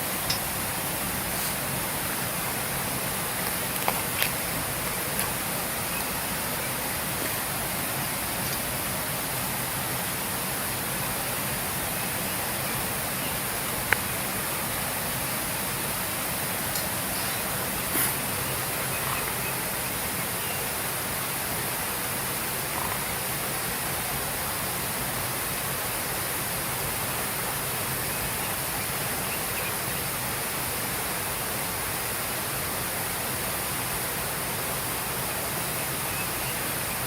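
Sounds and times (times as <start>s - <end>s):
water rushing: 0.0s - 37.0s.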